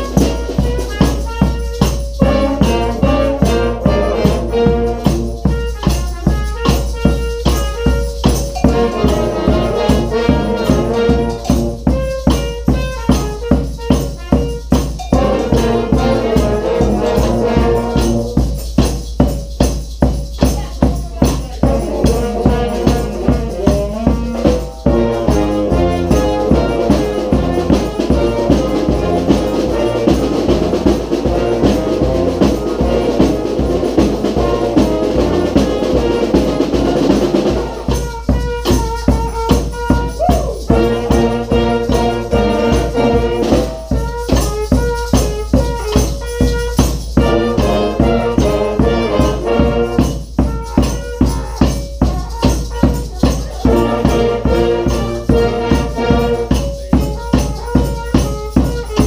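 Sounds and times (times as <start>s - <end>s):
brass band playing: 0.0s - 59.0s
snare drum beat: 0.0s - 59.0s.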